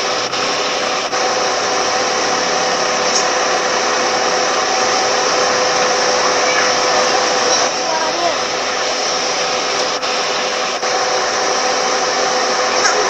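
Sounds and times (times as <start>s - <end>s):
air-conditioning blower rushing: 0.0s - 13.0s.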